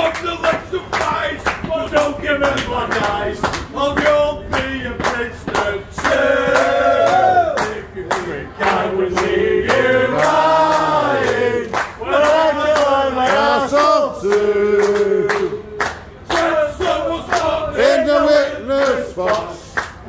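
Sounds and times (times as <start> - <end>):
hand claps: 0.0 - 17.6, 18.3 - 20.0
men singing unaccompanied: 0.0 - 19.8.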